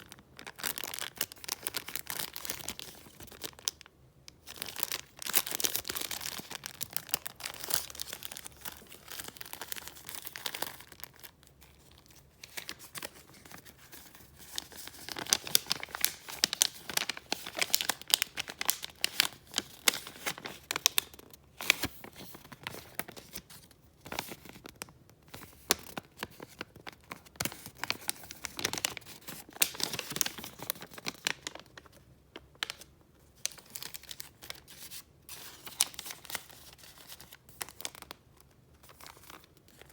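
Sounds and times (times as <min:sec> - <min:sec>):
paper rustling and crinkling: 0:04.6 - 0:32.0, 0:32.6 - 0:38.1.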